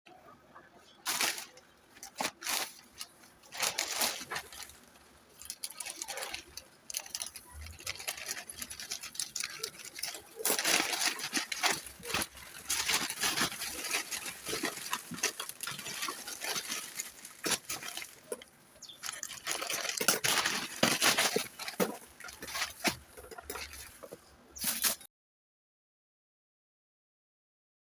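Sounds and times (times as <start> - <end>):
plastic and cardboard crinkling: 1.0 - 25.1.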